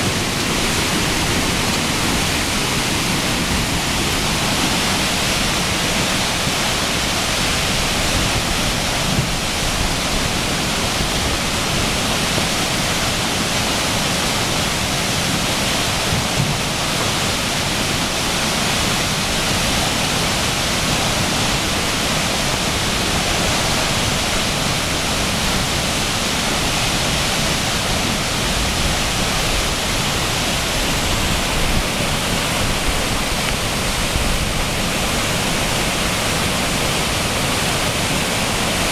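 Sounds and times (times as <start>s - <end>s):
rush of fast water: 0.0s - 38.9s.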